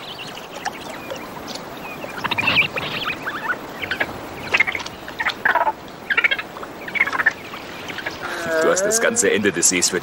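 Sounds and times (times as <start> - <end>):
high chirping animal calls: 0.0 - 9.2.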